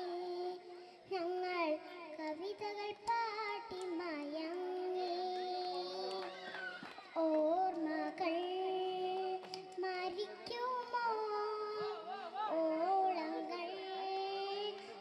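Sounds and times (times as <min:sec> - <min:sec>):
girl singing into a microphone: 0:00.0 - 0:15.0.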